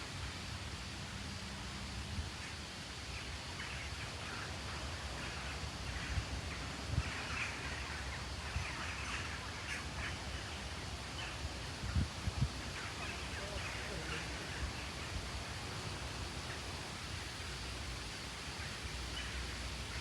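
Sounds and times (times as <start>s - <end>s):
leaves rustling in wind: 0.0s - 20.0s.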